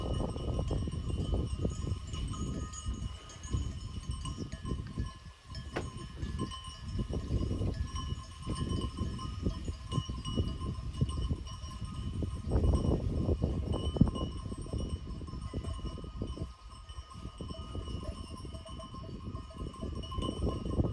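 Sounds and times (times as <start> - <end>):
livestock bells clinking: 0.0 - 20.9
wind on microphone: 0.0 - 20.9.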